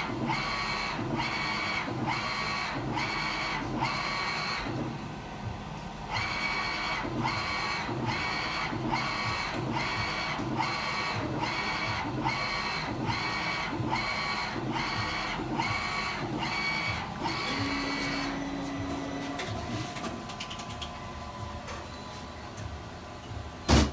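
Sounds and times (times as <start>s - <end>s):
print head carriage whirring: 0.0s - 23.9s
steady motor hum: 0.0s - 23.9s.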